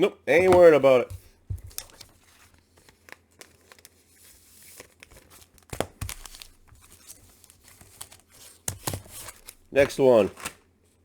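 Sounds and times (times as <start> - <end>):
comic books rustling: 0.4 - 10.6.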